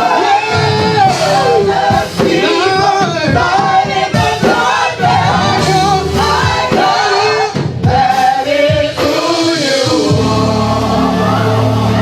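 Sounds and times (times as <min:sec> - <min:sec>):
choir and congregation singing: 0:00.0 - 0:12.0.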